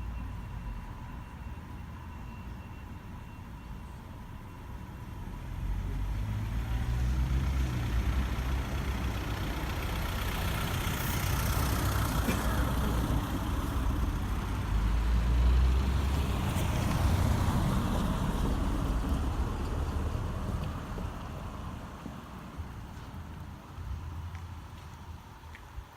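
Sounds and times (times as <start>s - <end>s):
low traffic rumble: 0.0s - 25.9s.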